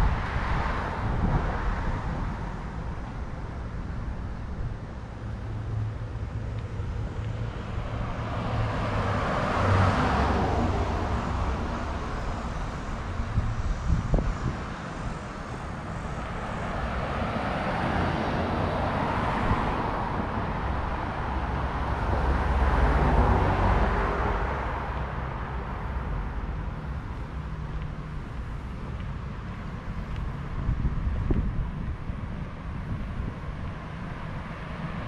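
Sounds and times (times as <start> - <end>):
low traffic rumble: 0.0 - 35.0
vehicles passing by: 0.0 - 35.0.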